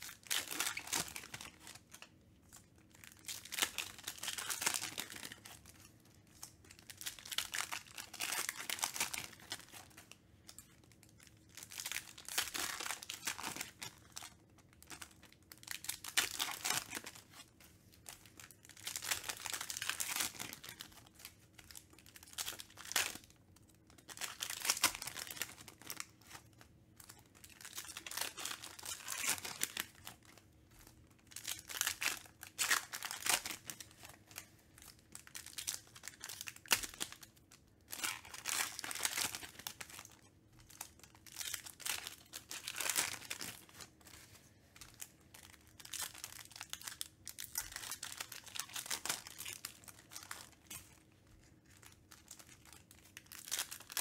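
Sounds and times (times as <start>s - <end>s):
foil wrappers crinkling and tearing: 0.0s - 54.0s.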